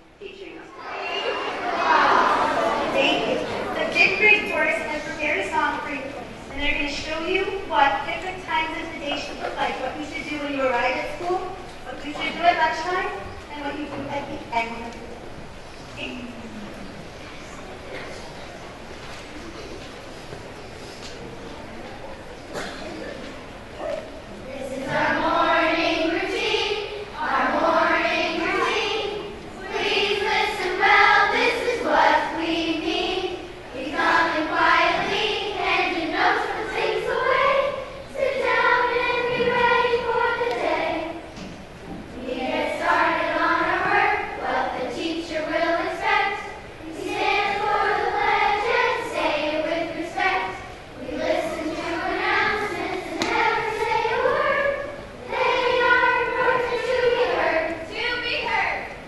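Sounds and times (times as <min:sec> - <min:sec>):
children's choir singing: 0:00.0 - 0:13.0, 0:21.6 - 0:59.0.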